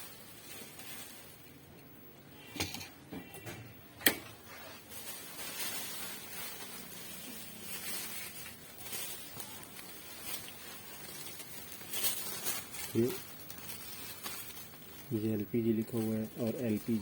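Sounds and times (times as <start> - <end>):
scraping and rustling: 0.0 - 1.6, 4.3 - 17.0.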